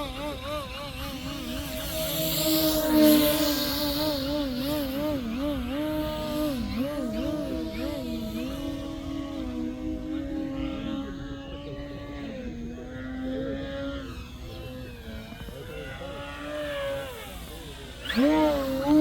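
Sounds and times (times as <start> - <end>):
model airplane motor humming: 0.0 - 19.0.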